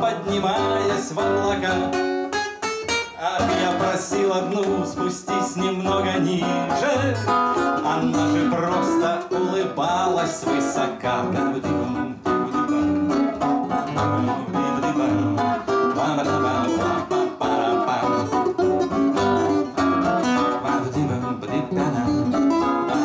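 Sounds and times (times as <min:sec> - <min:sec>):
acoustic guitars playing: 0:00.0 - 0:23.0.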